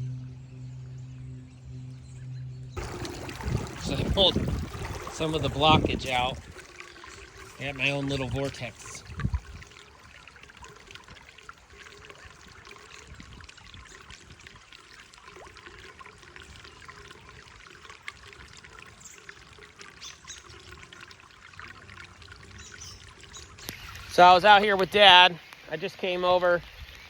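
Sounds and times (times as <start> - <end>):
water pouring into drain pipe: 2.8 - 27.0.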